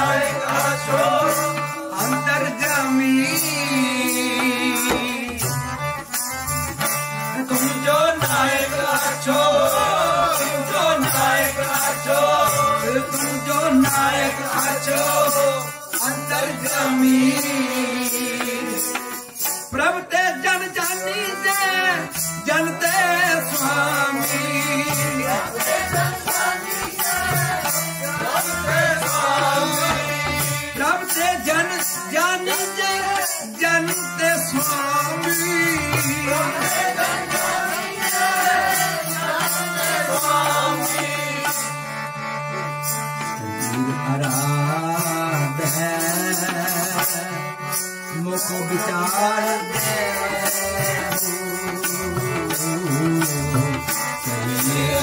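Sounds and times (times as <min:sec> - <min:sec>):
man singing: 0:00.0 - 0:06.2, 0:06.8 - 0:42.2, 0:43.2 - 0:55.0
steady percussion beat: 0:00.0 - 0:19.8, 0:20.8 - 0:41.9, 0:42.5 - 0:55.0
harmonium chords: 0:00.0 - 0:55.0.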